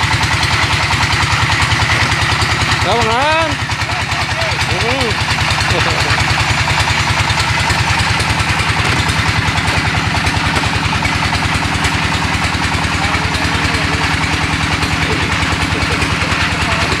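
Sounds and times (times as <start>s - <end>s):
brick-making machine pulsing: 0.0s - 17.0s.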